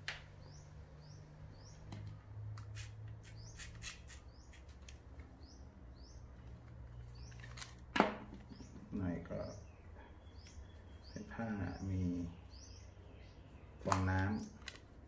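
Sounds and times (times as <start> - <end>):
bird chirping: 0.1 - 14.8.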